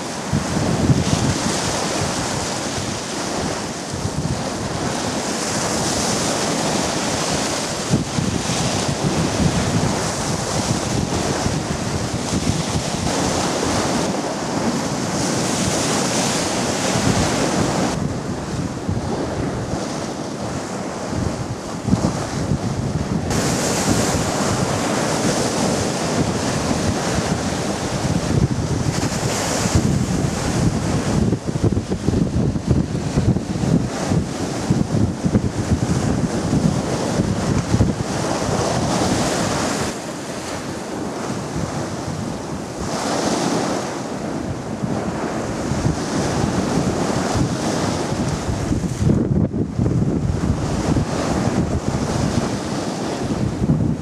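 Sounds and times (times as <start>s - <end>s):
sea water washing and breaking: 0.0s - 54.0s
wind buffeting microphone: 0.0s - 54.0s.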